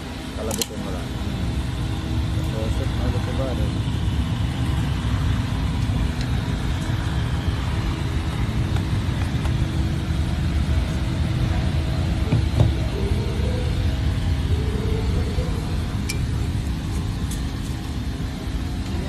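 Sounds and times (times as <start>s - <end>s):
engine rumble and hum: 0.0s - 19.0s.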